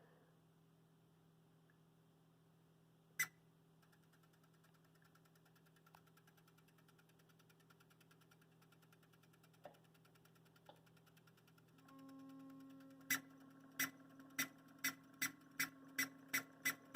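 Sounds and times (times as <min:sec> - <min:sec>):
steady low hum: 0:00.0 - 0:16.9
fast electrical ticking: 0:03.2 - 0:16.9.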